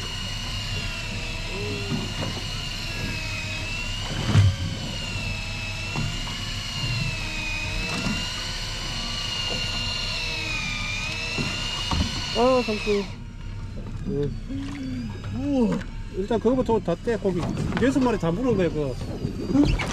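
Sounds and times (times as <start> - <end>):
electric fishing reel whining: 0.0 - 19.9
low steady hum: 0.0 - 19.9.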